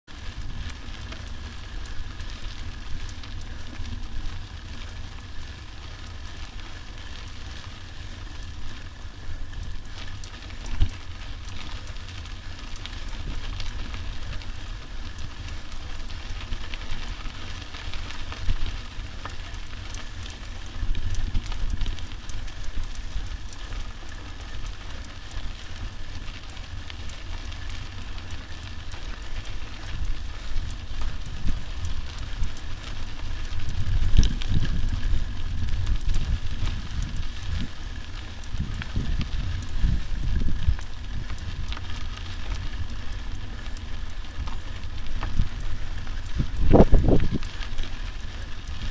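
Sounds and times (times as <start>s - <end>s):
bike tyres crackling over stones: 0.1s - 48.9s
wind rumbling on microphone: 0.1s - 48.9s.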